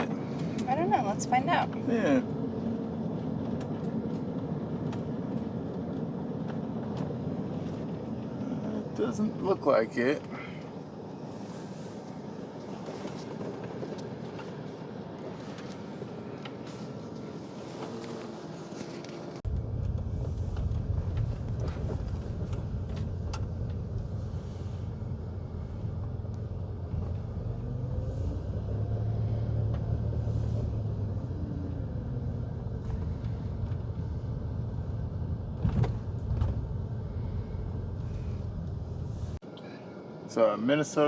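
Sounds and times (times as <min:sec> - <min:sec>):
road and engine rumble: 0:00.0 - 0:41.0.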